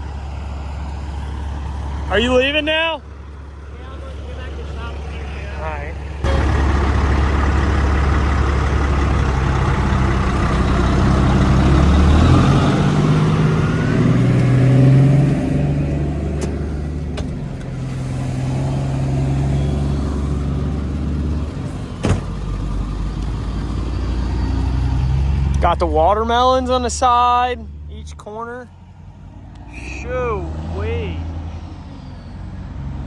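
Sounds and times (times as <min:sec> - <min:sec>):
vehicle engine accelerating: 0:00.0 - 0:27.9, 0:28.7 - 0:33.0.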